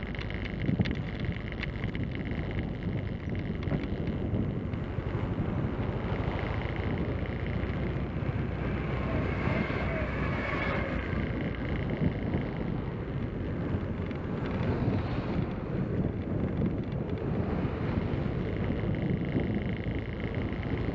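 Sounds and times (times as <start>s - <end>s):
motorcycle engine and road noise: 0.0s - 20.9s
wind buffeting microphone: 0.0s - 20.9s.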